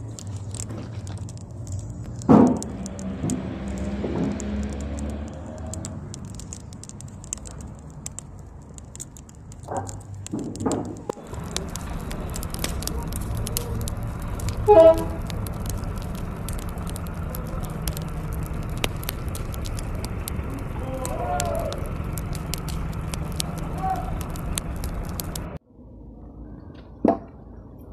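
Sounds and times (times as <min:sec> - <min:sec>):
quiet clicking: 0:00.0 - 0:25.6
wood fire crackling: 0:00.0 - 0:25.6.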